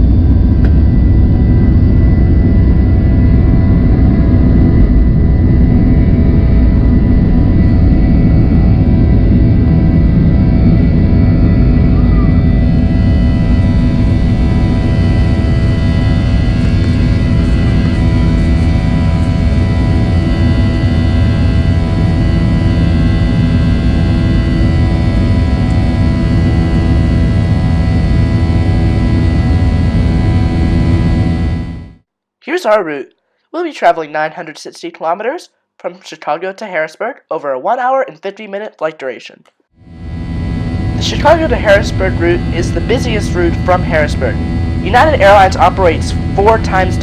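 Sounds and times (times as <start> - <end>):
jet cabin rumble: 0.0 - 32.0, 39.9 - 47.0
steady whining tones: 0.0 - 32.1, 39.8 - 47.0.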